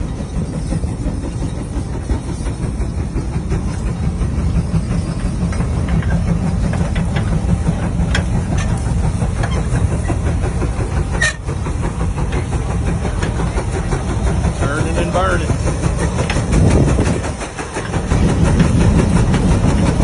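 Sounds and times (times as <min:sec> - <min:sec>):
steam engine rumble: 0:00.0 - 0:20.0
steam hissing: 0:00.0 - 0:20.0.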